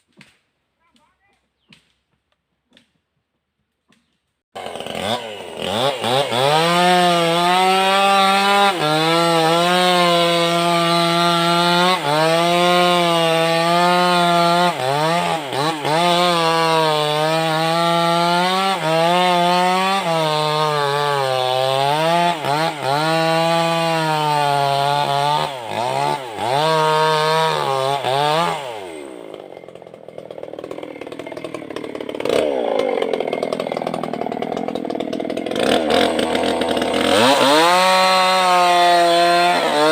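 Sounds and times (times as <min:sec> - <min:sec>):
chainsaw cutting wood: 0:03.7 - 0:39.9.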